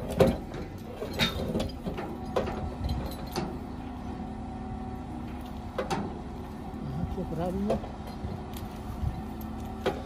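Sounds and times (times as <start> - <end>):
heavy machine engine running: 0.0 - 10.0.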